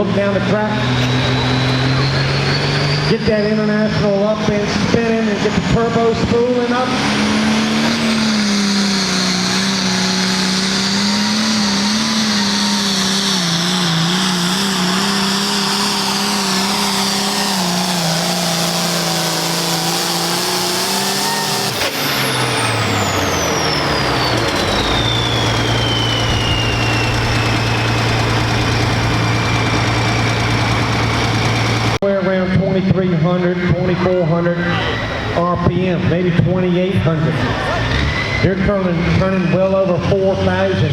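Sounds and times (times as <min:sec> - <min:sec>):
tractor engine running at high revs: 0:00.0 - 0:40.9
turbo whine winding down: 0:00.0 - 0:40.9.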